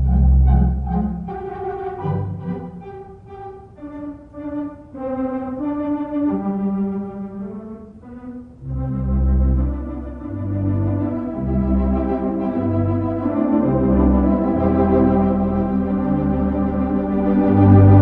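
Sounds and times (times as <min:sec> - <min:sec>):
low organ bass notes: 0:00.0 - 0:18.0
organ chords: 0:00.0 - 0:18.0.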